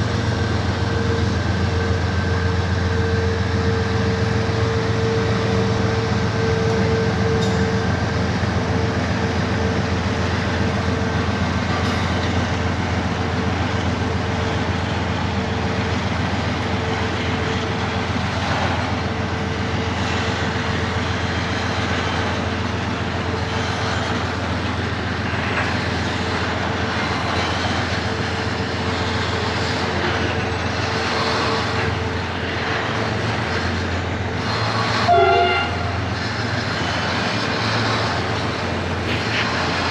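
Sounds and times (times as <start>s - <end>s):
diesel locomotive engine drone: 0.0s - 39.9s
steady whine: 0.0s - 39.9s.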